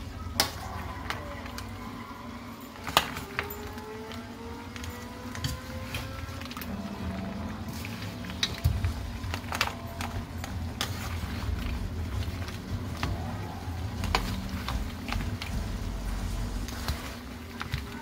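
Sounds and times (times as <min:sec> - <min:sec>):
low rumble of handling: 0:00.0 - 0:18.0.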